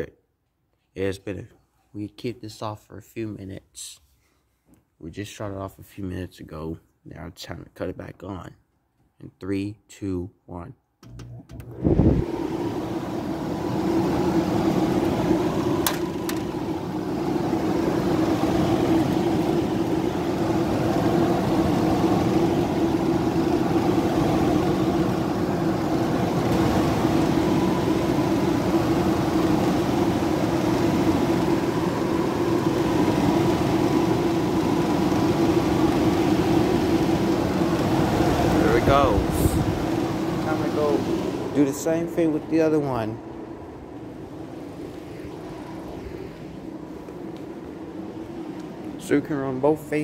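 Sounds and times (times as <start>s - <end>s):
air conditioner humming: 0.0s - 50.0s.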